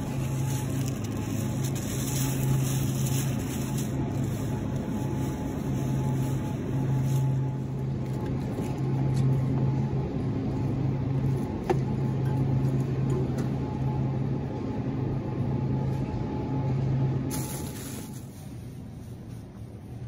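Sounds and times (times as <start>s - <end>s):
supermarket hum and rumble: 0.0s - 20.0s.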